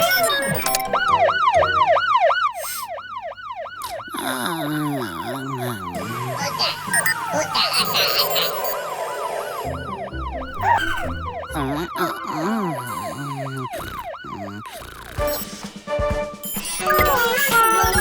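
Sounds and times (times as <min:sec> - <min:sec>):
cartoon fire truck siren wailing: 0:00.0 - 0:15.5, 0:16.4 - 0:18.0.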